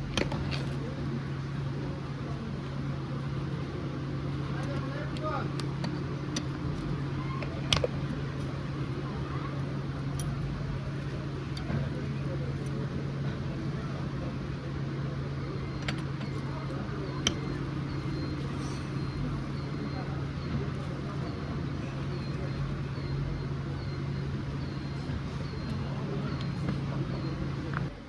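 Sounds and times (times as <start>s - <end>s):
motorcycle engine running: 0.0s - 28.0s
voices in background: 0.0s - 28.0s.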